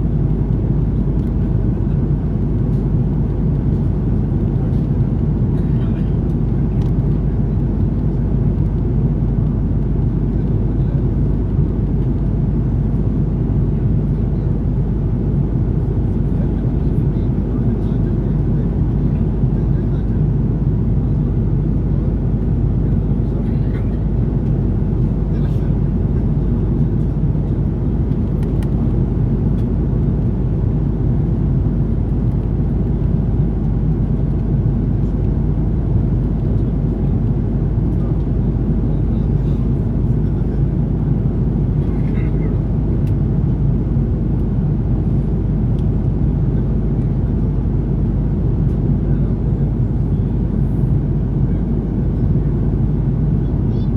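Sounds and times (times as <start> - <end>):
airliner cabin roar: 0.0 - 53.9.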